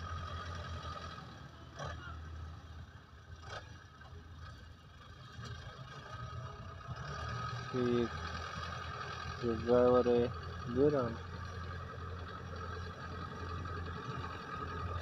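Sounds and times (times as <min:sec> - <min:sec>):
distant tractor engine drone: 0:00.0 - 0:15.0.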